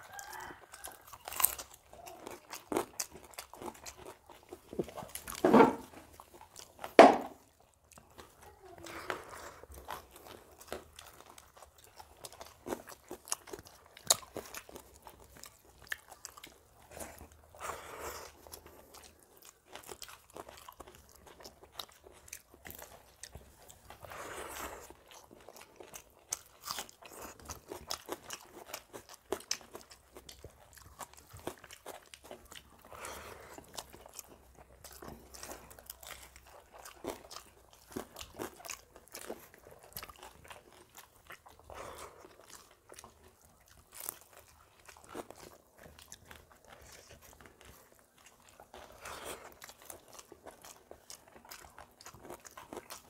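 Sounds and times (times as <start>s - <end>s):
chewing and mouth smacks: 0.0s - 53.0s.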